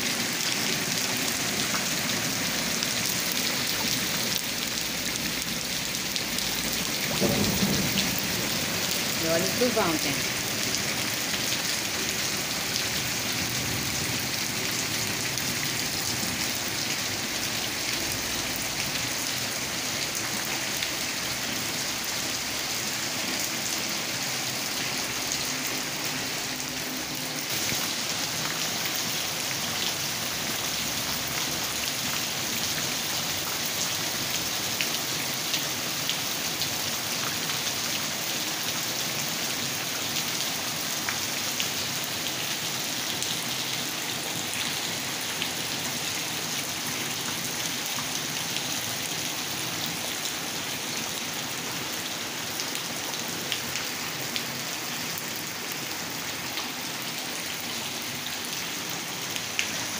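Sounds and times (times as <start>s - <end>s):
heavy rain on concrete and puddles: 0.0s - 59.9s.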